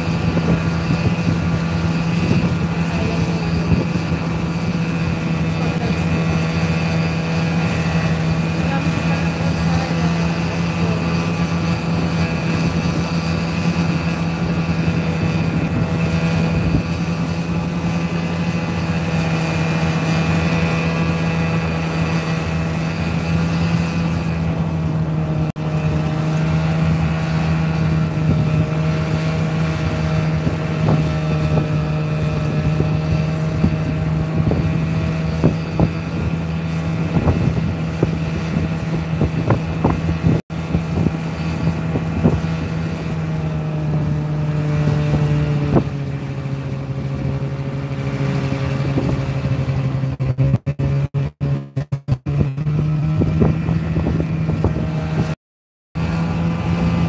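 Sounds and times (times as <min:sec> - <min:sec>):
snowmobile engine droning: 0:00.0 - 0:55.4, 0:56.0 - 0:57.0.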